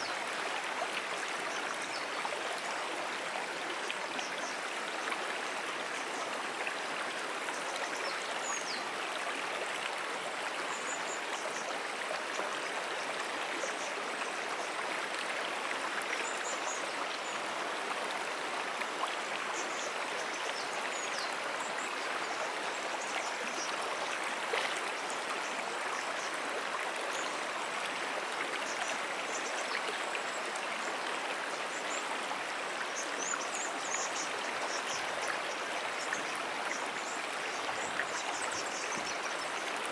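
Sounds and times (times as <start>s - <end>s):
stream trickling and burbling: 0.0s - 39.9s.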